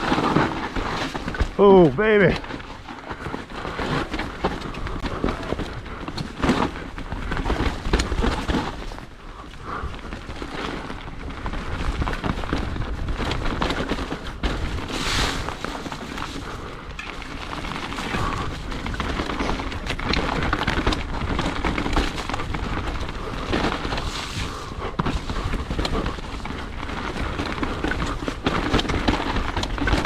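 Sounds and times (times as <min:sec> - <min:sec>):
bike knocking and rattling: 0:00.0 - 0:30.0
wind rumbling on microphone: 0:00.0 - 0:30.0.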